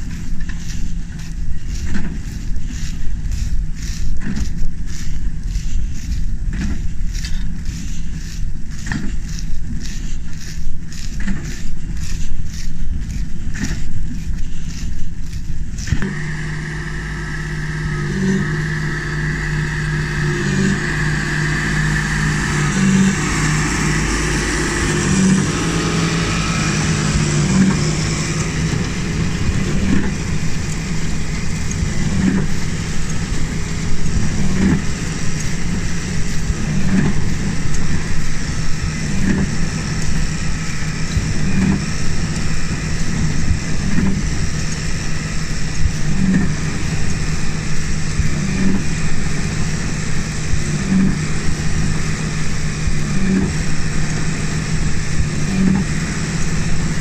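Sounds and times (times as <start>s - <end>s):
baler drive whirr: 0.0s - 57.0s
machinery rumble: 0.0s - 57.0s
tractor engine under load: 0.0s - 57.0s.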